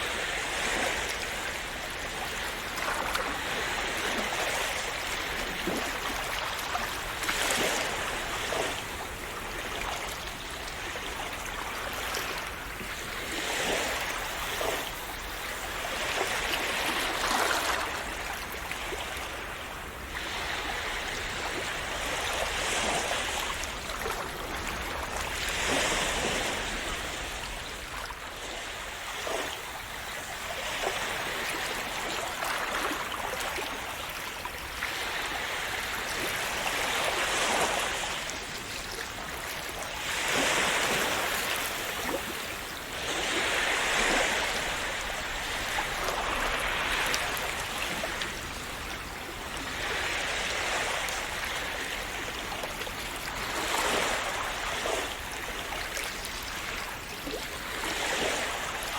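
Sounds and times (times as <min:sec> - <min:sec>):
sea waves washing on shore: 0:00.0 - 0:58.9.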